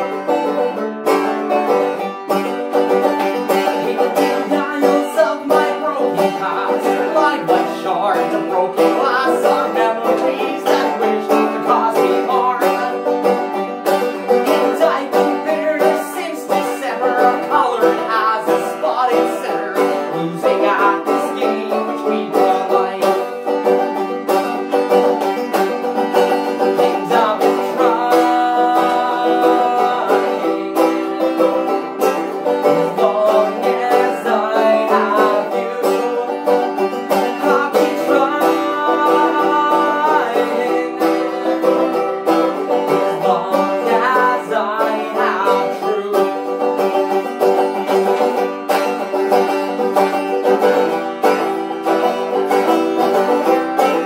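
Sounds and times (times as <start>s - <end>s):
banjo plucked rhythm: 0.0s - 54.0s
man singing: 3.2s - 23.9s, 24.6s - 54.0s.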